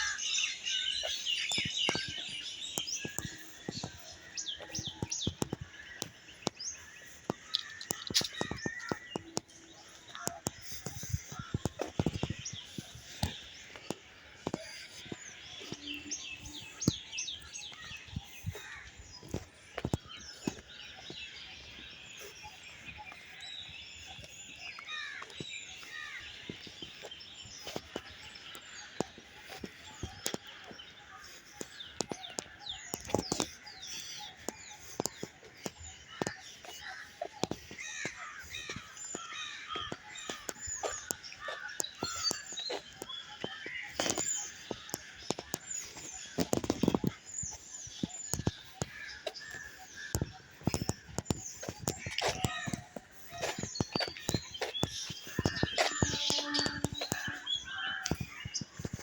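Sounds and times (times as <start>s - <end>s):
birds chirping in chorus: 0.0s - 59.0s.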